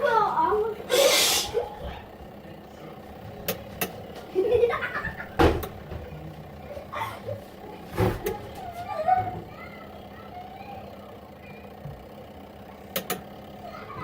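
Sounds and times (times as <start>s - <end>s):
spin dryer clicking: 0.0s - 11.0s, 11.6s - 14.0s.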